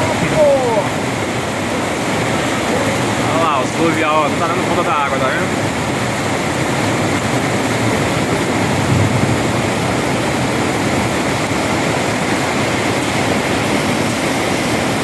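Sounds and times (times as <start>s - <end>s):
heavy rain and running water: 0.0s - 15.0s.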